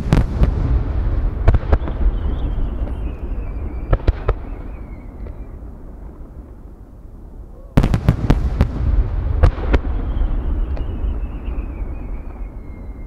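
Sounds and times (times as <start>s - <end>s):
fireworks bangs: 0.0s - 6.6s, 7.8s - 13.0s
fireworks rumbling: 0.0s - 13.0s.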